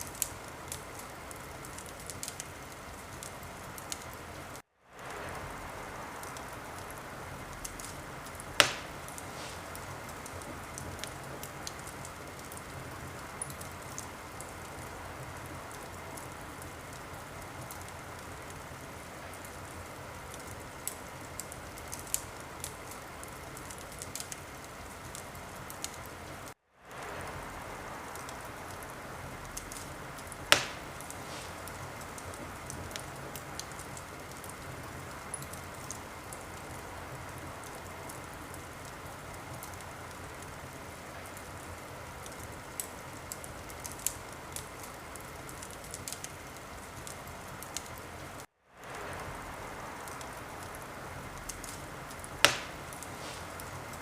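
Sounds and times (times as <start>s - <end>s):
wood fire crackling: 0.0s - 54.0s
loud pops from fire: 6.2s - 26.1s, 28.0s - 48.0s, 48.8s - 54.0s.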